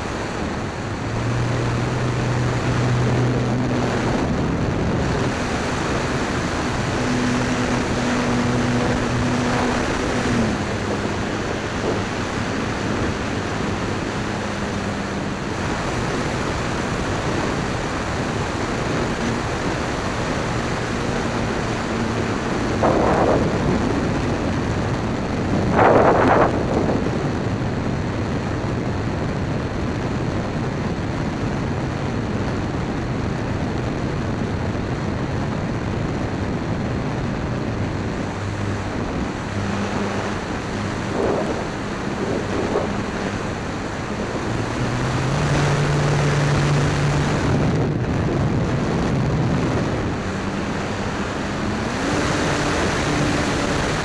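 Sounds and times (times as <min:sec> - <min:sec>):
electric motor and propeller: 0:00.0 - 0:54.0
wind rushing over microphone: 0:00.0 - 0:54.0.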